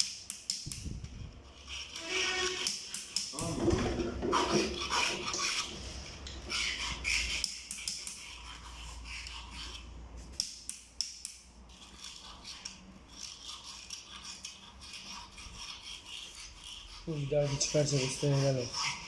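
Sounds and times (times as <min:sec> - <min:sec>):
hand rubbing and scraping: 0:00.3 - 0:10.5, 0:11.7 - 0:19.0.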